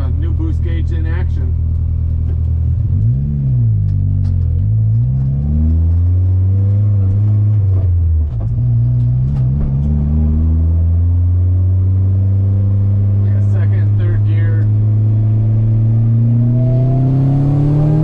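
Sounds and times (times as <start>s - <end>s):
car engine pulling hard: 0.0s - 18.0s.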